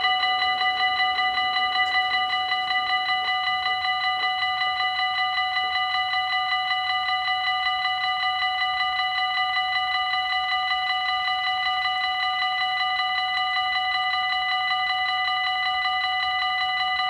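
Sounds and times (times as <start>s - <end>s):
level crossing warning bell: 0.0s - 16.3s.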